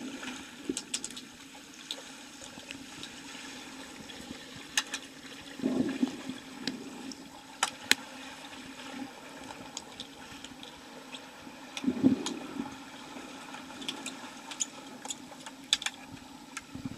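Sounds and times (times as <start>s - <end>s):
underwater bubbling bursts: 0.0s - 16.9s.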